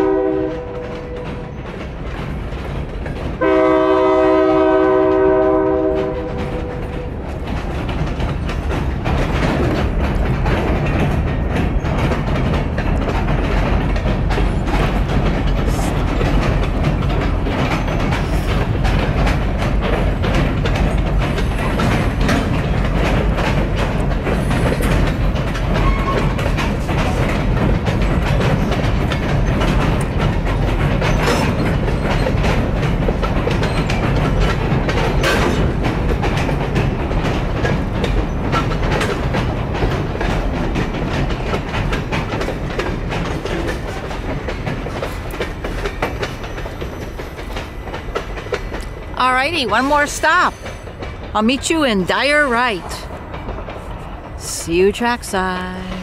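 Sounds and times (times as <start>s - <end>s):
freight train rumbling over bridge: 0.0s - 56.0s
train wheel clicks and clanks: 0.0s - 56.0s.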